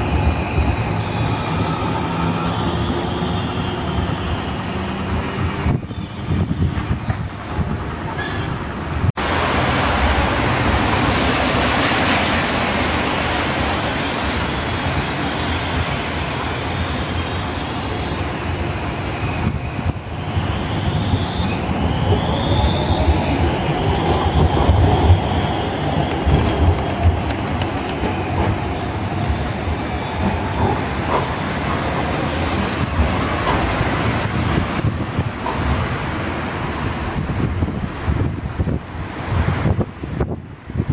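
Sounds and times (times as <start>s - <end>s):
tram wheels rumbling on rails: 0.0s - 40.9s.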